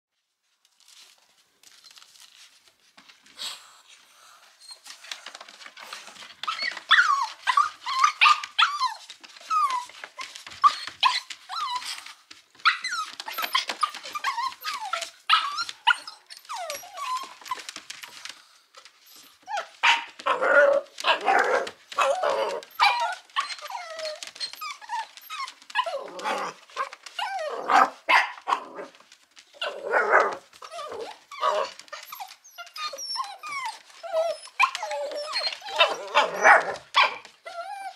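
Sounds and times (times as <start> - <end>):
puppies yapping and barking: 4.7 - 37.9.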